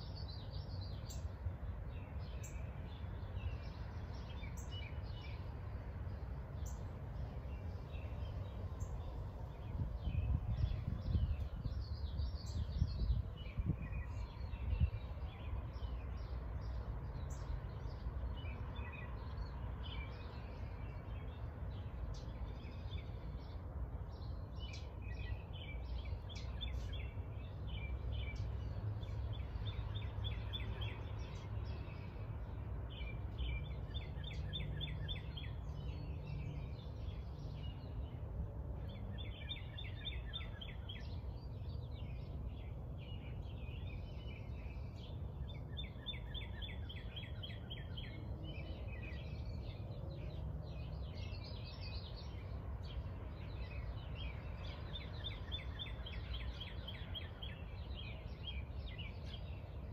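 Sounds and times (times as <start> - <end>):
songbirds trilling: 0.0 - 59.9.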